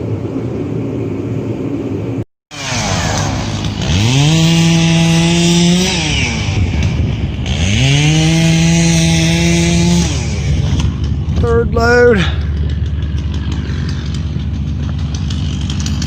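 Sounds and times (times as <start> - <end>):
chainsaw revving: 2.5 - 16.0.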